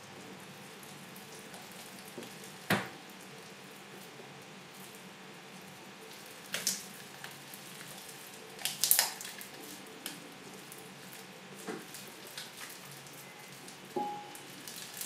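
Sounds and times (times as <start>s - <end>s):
wet slime squishing: 0.4s - 15.0s.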